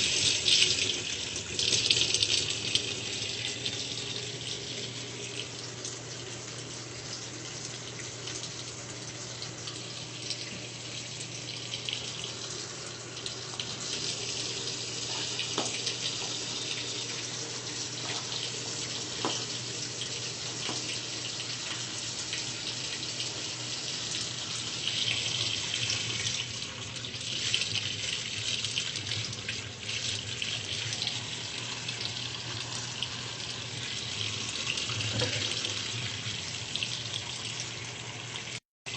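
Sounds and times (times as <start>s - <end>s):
water splashing in washing machine: 0.0s - 38.9s.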